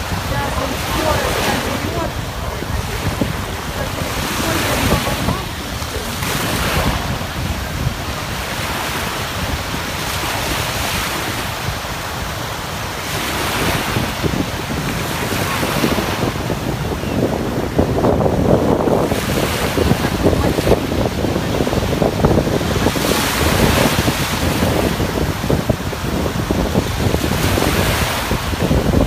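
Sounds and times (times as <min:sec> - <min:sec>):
sea waves breaking: 0:00.0 - 0:29.0
wind buffeting microphone: 0:00.0 - 0:29.0.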